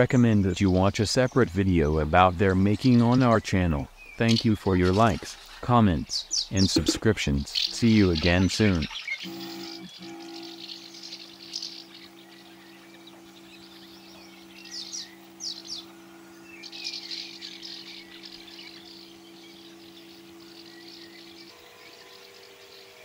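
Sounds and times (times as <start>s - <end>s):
birds chirping: 0.0s - 23.0s
electric pump humming: 2.2s - 23.0s.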